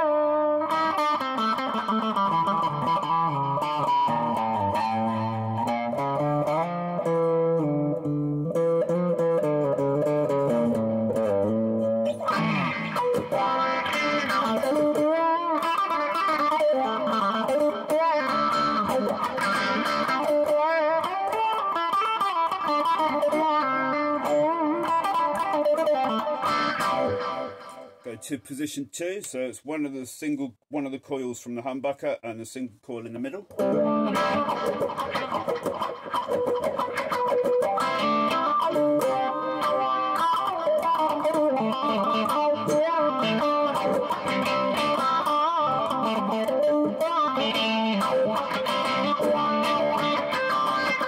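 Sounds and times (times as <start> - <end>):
clean electric guitar with wah: 0.0 - 28.2, 33.4 - 51.0.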